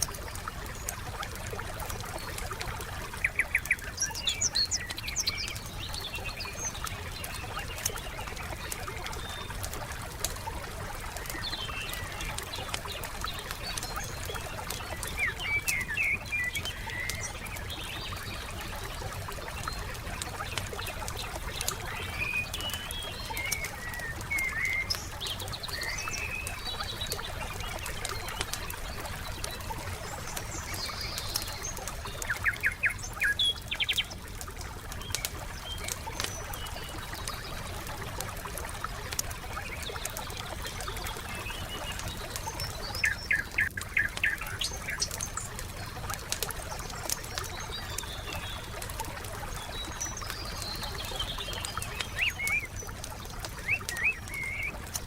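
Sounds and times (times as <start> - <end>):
small birds chirping: 0.0 - 55.0
wood fire crackling and popping: 0.0 - 55.0.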